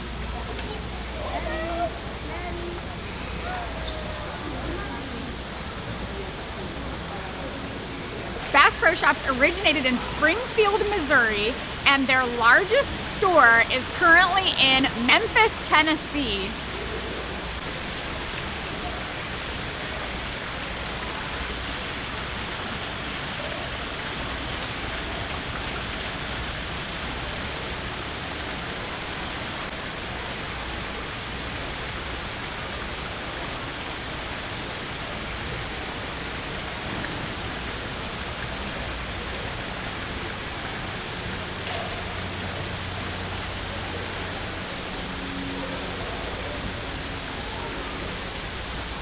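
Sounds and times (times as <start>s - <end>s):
waterfall splashing into pool: 8.4s - 49.0s.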